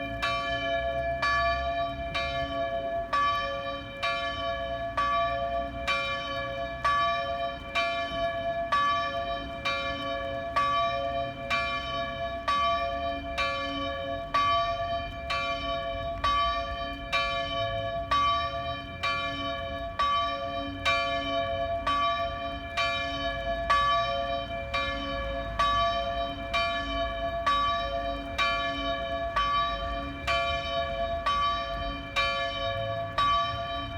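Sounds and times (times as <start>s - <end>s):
church bell ringing: 0.0s - 33.9s.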